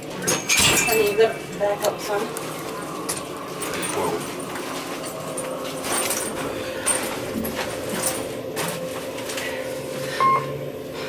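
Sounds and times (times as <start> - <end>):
elevator hum: 0.0 - 11.0.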